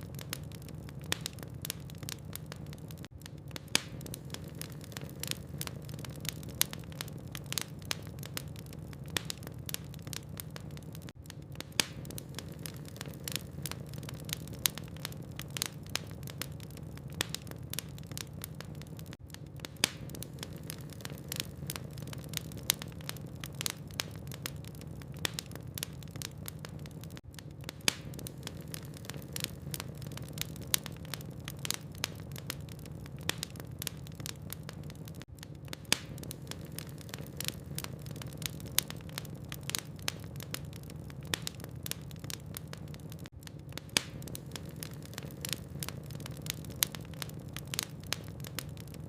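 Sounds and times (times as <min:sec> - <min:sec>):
low rumble of flames: 0:00.0 - 0:49.0
wood fire crackling and popping: 0:00.0 - 0:49.0.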